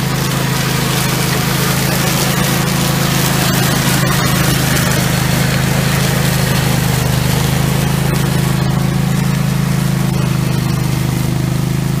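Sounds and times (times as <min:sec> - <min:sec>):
mower cutting grass and leaves: 0:00.0 - 0:12.0
mower engine drone: 0:00.0 - 0:12.0.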